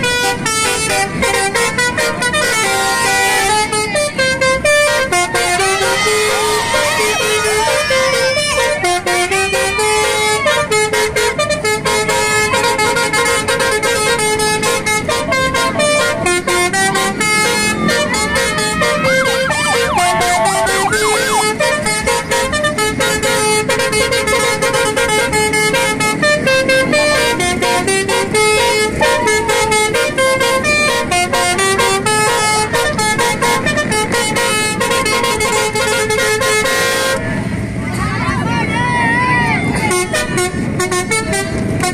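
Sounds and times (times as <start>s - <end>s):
musical car horn tune: 0.0s - 37.4s, 39.8s - 41.9s.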